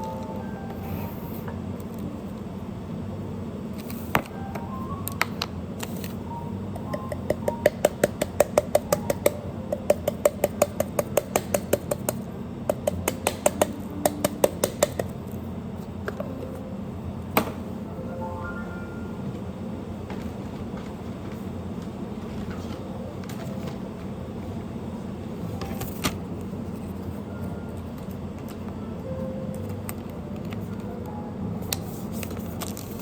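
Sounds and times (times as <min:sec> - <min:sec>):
faint background music: 0:00.0 - 0:33.0
steady low hum: 0:00.0 - 0:33.0.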